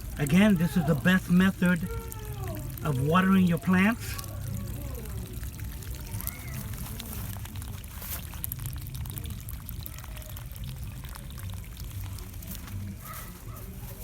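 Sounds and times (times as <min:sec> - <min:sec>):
low steady rumble: 0:00.0 - 0:14.0
water pouring and spattering: 0:00.0 - 0:14.0.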